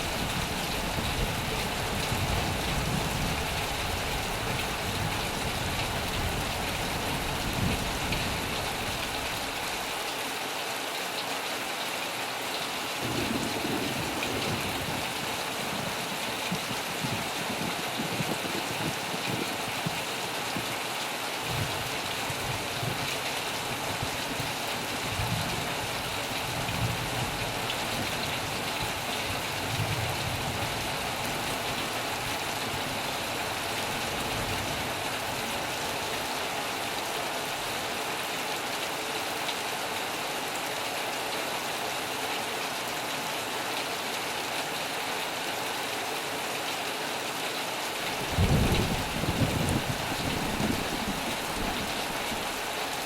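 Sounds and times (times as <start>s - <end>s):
heavy rain on metal roof: 0.0s - 53.0s.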